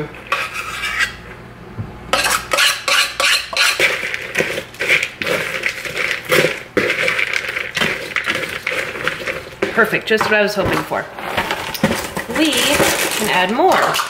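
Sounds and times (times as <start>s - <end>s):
utensil scraping a plastic bowl: 0.2s - 1.2s, 2.2s - 14.0s.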